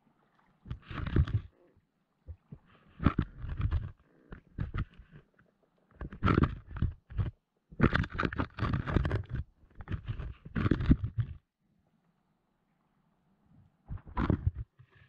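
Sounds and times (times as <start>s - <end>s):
muffled knocks and scrapes underwater: 0.2s - 11.5s, 13.9s - 15.0s.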